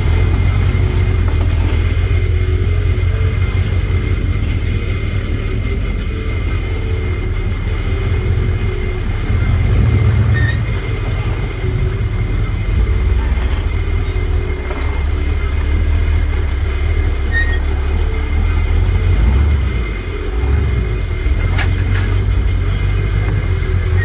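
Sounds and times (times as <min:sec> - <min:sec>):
buggy engine rumbling at low revs: 0:00.0 - 0:24.0.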